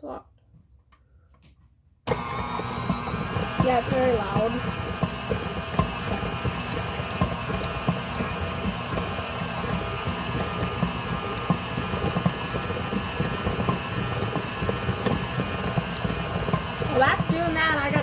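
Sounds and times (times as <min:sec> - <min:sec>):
stand mixer motor whine: 0:02.1 - 0:18.0.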